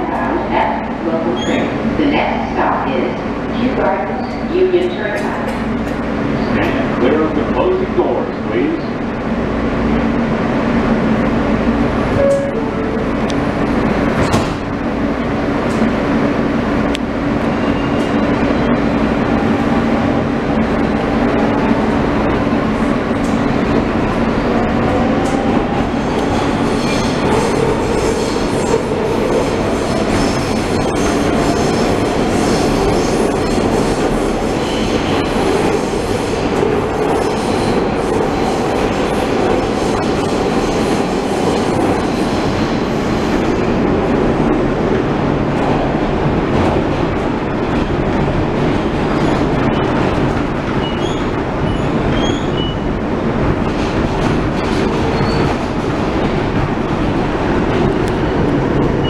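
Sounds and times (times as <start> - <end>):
subway train running on track: 0.0 - 59.0.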